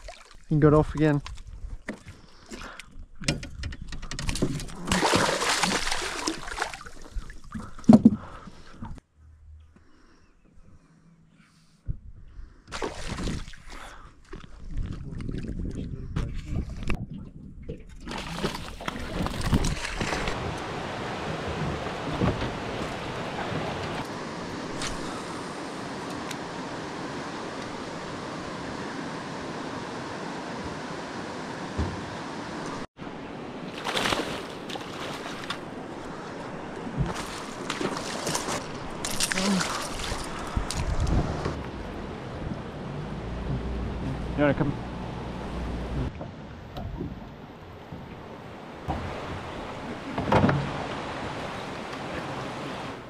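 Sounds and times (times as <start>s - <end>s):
water splashing and sloshing: 0.0s - 9.0s, 12.6s - 15.9s, 16.5s - 53.0s.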